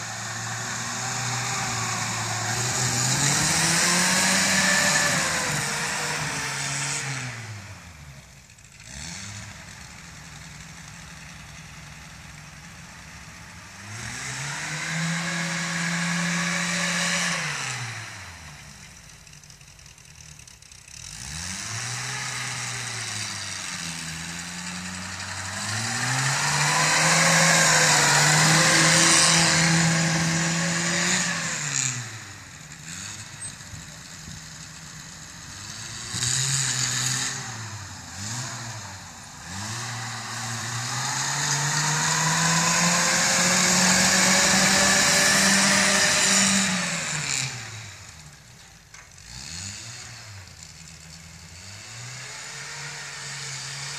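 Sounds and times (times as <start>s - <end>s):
engine revving hard: 0.0s - 8.1s, 8.8s - 9.9s, 13.4s - 18.8s, 20.9s - 48.4s, 49.2s - 50.7s, 51.4s - 53.9s.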